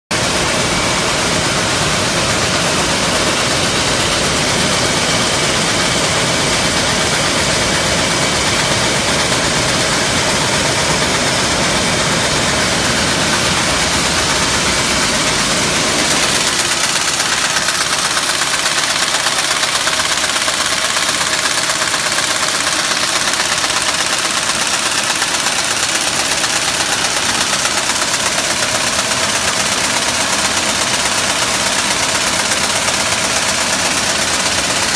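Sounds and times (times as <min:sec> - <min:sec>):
welding line machine noise: 0:00.1 - 0:34.9.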